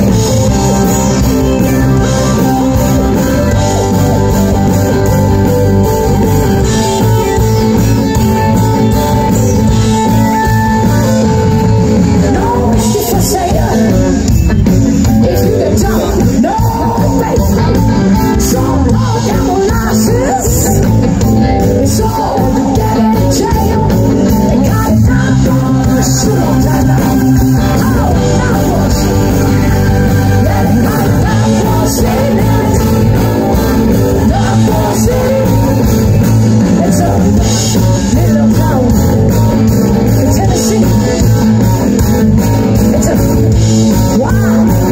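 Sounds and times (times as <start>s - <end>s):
drums: 0.0s - 44.9s
electric guitars: 0.0s - 44.9s
keyboard: 0.0s - 44.9s
person singing: 0.0s - 44.9s.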